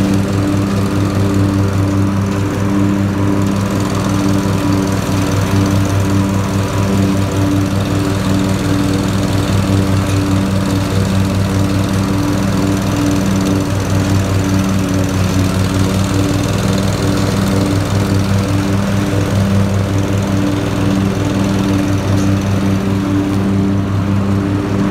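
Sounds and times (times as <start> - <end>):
riding mower engine running: 0.0 - 24.9.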